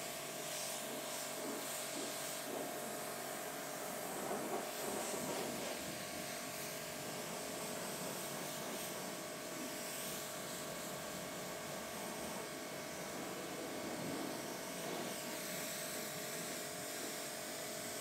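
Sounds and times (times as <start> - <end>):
pressure washer running: 0.0 - 18.0.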